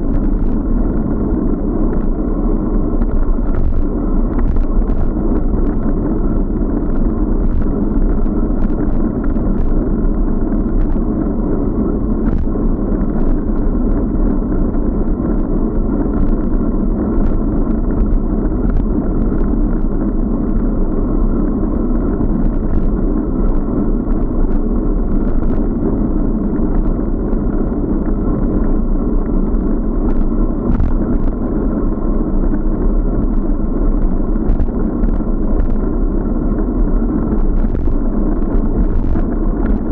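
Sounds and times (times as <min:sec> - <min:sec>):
muffled wind and road rumble: 0:00.0 - 0:39.9.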